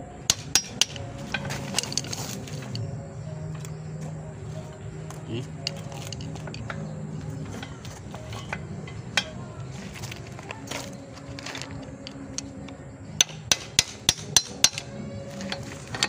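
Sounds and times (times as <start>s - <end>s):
hammer blows on metal: 0.0s - 16.0s.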